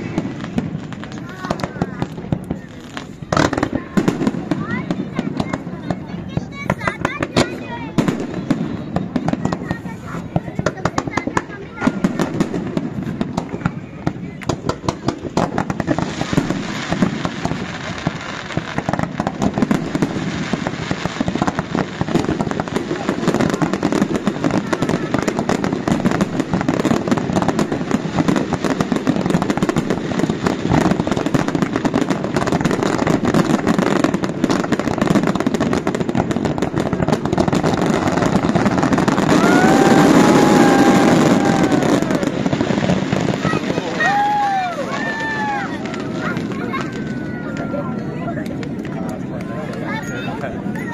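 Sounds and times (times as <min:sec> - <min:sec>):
fireworks crackling: 0:00.0 - 0:50.9.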